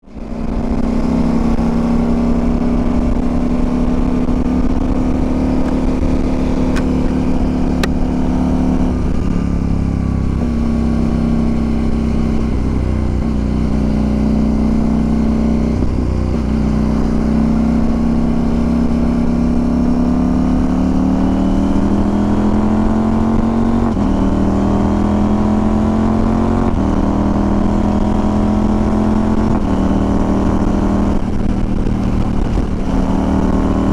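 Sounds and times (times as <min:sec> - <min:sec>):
motorcycle engine accelerating: 0:00.0 - 0:33.9
wind rushing on microphone: 0:00.1 - 0:14.5, 0:15.2 - 0:20.8, 0:26.6 - 0:33.9.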